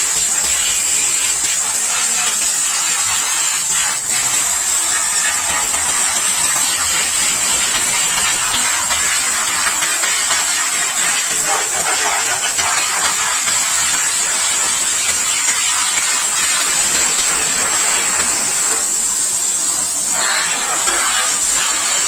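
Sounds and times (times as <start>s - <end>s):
high-pressure water jet hissing: 0.0s - 22.0s.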